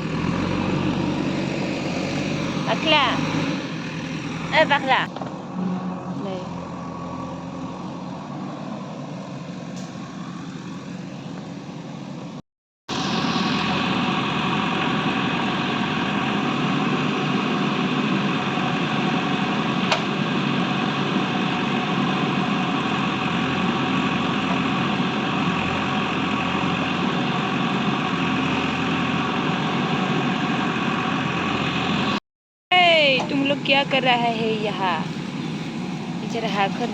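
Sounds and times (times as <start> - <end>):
engine idling: 0.0 - 5.6, 7.8 - 32.2, 32.8 - 36.9.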